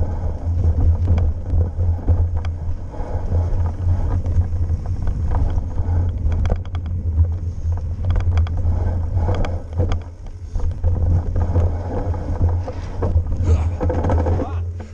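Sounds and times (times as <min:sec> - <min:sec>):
bike clicks and rattles: 0:00.0 - 0:14.9
tyres rumbling on dirt: 0:00.0 - 0:14.9
wind on microphone: 0:00.0 - 0:14.9.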